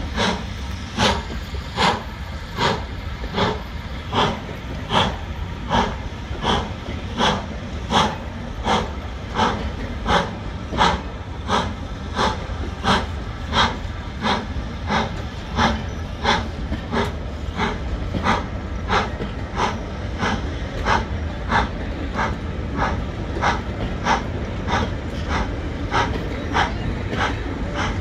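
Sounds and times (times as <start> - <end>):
low rumble of moving train: 0.0 - 28.0
steam locomotive exhaust beats: 0.0 - 28.0.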